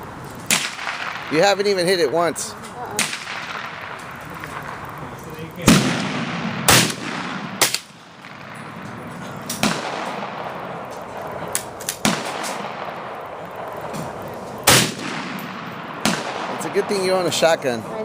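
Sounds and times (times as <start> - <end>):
rifle shots echoing: 0.4 - 18.0
distant gunshots: 0.5 - 2.3, 2.9 - 5.0, 5.6 - 17.8.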